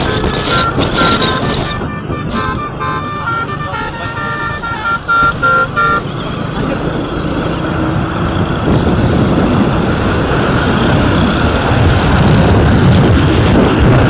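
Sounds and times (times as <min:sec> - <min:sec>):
bus engine rumble: 0:00.0 - 0:14.0
road noise: 0:00.0 - 0:14.0.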